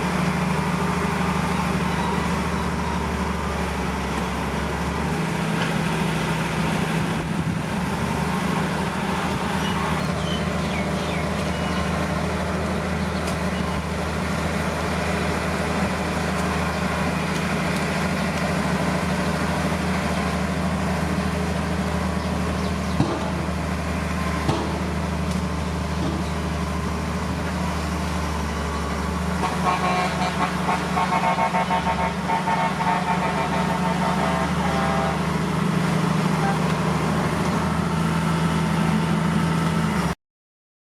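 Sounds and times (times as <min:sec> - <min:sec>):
heavy diesel engine droning: 0:00.0 - 0:40.2.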